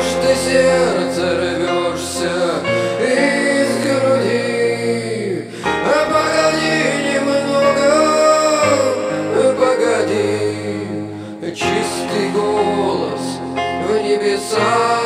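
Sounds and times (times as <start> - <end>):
song with sung vocal: 0.0 - 15.0.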